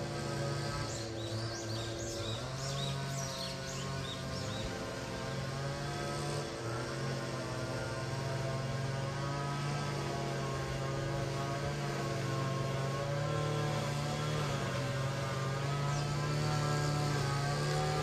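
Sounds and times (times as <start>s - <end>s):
motor droning hum: 0.0s - 18.0s.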